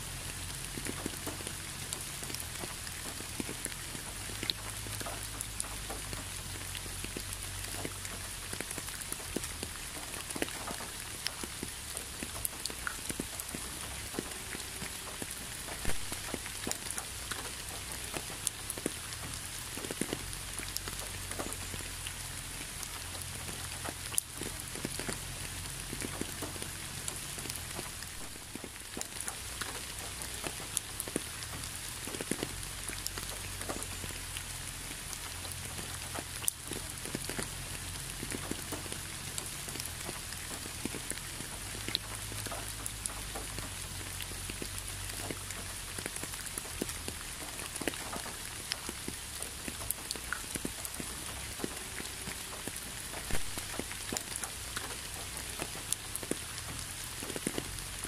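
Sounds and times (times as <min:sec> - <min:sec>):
raindrops tapping close by: 0:00.0 - 0:58.0
steady rain falling: 0:00.0 - 0:58.0.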